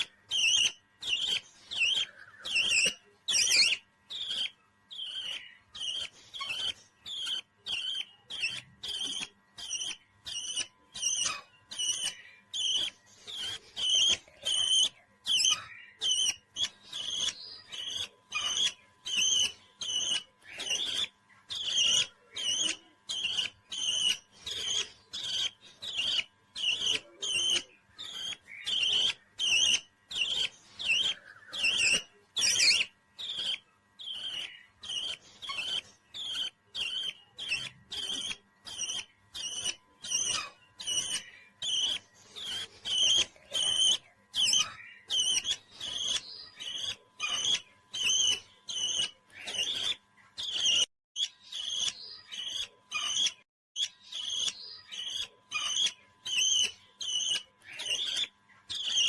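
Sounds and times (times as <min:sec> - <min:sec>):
parrot chirping: 0:00.0 - 0:59.0.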